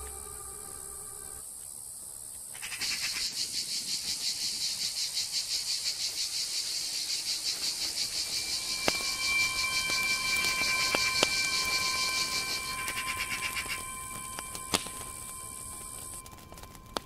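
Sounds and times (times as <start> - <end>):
faint steady hiss: 0.0 - 17.0
insects trilling: 0.0 - 17.0.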